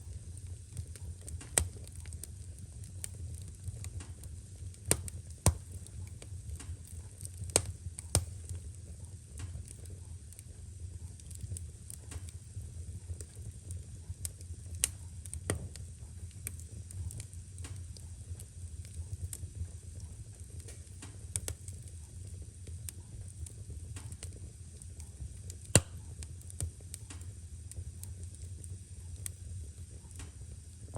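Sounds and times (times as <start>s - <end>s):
wood fire crackling and popping: 0.0s - 30.9s.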